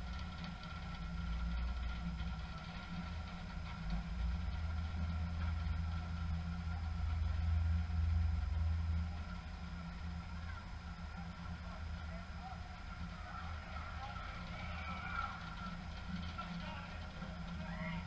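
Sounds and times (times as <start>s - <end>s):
faint high whine: 0.0s - 18.0s
low mechanical hum: 0.0s - 18.0s.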